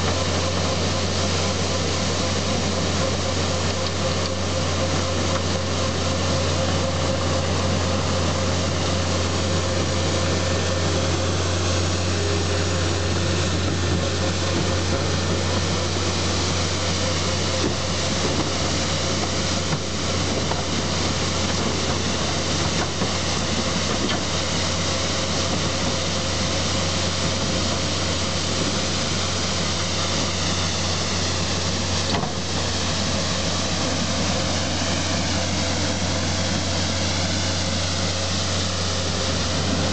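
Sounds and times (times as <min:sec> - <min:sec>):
loader engine drone: 0:00.0 - 0:39.9
steady hum: 0:00.0 - 0:39.9.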